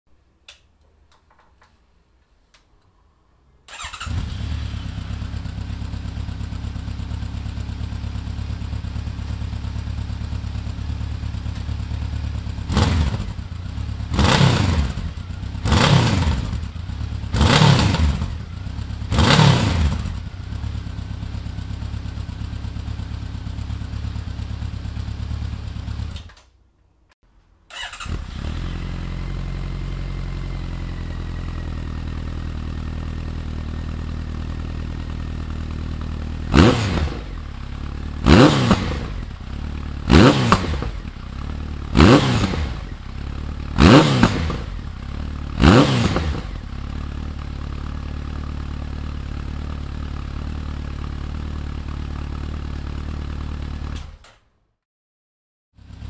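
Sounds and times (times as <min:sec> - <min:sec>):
motorcycle engine idling: 0:03.7 - 0:26.1, 0:28.6 - 0:36.6, 0:37.2 - 0:38.4, 0:39.0 - 0:42.1, 0:42.8 - 0:45.7, 0:46.3 - 0:54.0, 0:55.8 - 0:56.0
motorcycle engine revving: 0:03.7 - 0:26.3, 0:27.7 - 0:54.1, 0:55.8 - 0:56.0.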